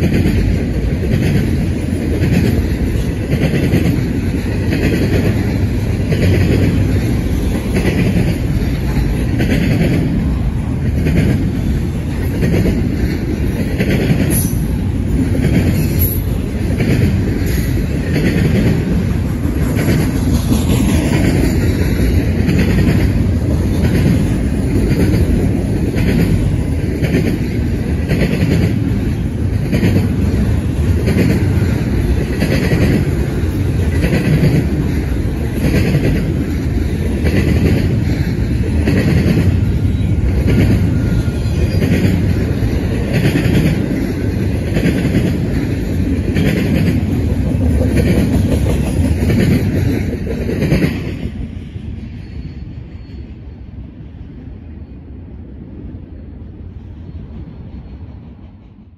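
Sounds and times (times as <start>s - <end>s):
freight train wheels clattering: 0.0s - 51.7s.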